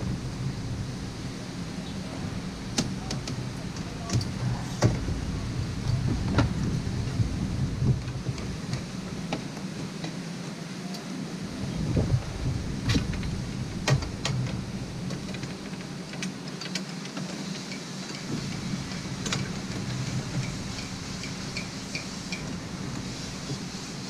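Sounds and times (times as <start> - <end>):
wind buffeting microphone: 0.0 - 10.3, 11.0 - 16.4, 18.1 - 24.0.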